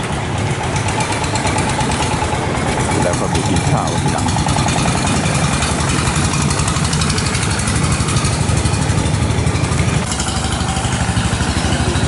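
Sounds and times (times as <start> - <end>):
boat engine throbbing: 0.0 - 12.0.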